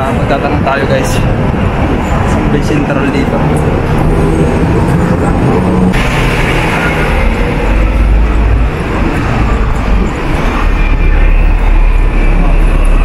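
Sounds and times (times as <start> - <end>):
bus engine rumble: 0.0 - 13.0
city street traffic: 0.0 - 13.0.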